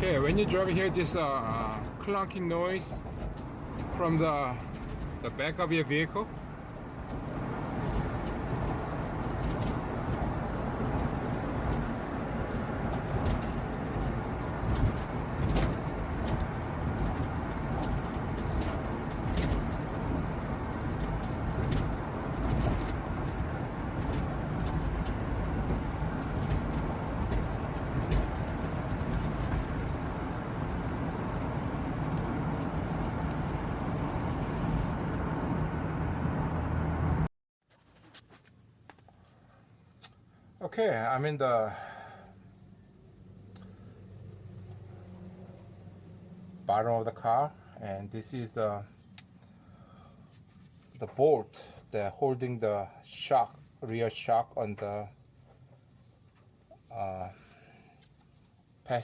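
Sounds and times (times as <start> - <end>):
van engine and road noise: 0.0 - 59.0.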